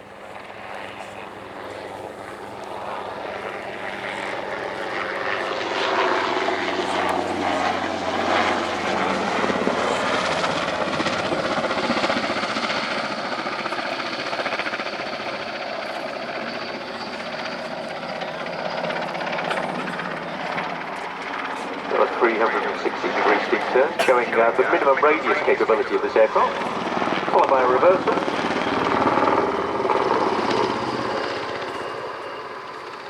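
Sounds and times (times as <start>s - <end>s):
helicopter passing: 0.0s - 33.0s.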